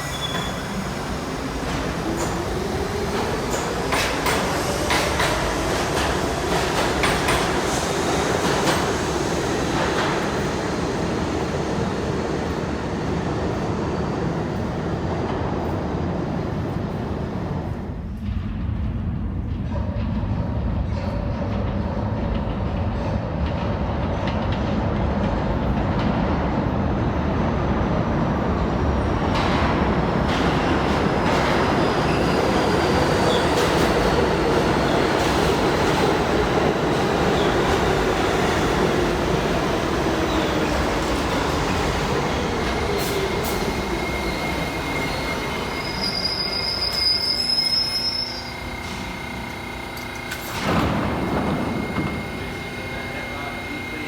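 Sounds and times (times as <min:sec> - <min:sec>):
subway train wheels rumbling: 0:00.0 - 0:54.0.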